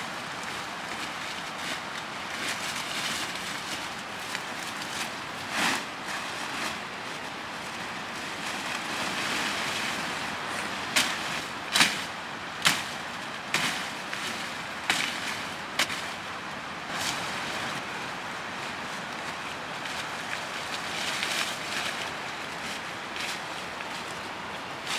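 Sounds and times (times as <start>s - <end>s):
rustling of leafy branches: 0.0s - 24.9s
branches cracking: 0.1s - 24.9s.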